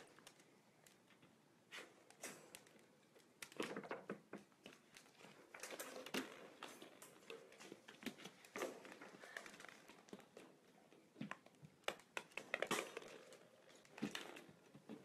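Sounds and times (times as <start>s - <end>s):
puppy among plastic balls: 0.0s - 15.0s.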